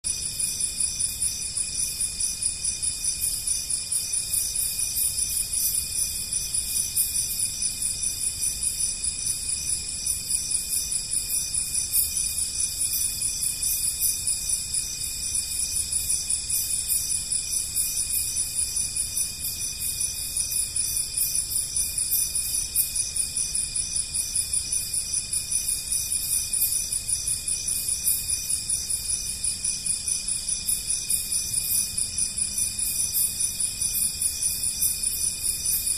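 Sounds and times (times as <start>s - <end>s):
insects trilling: 0.1s - 35.9s.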